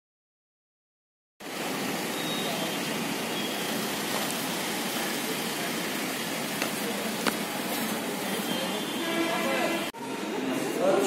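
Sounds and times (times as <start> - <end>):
steady outdoor hiss: 1.4 - 11.0.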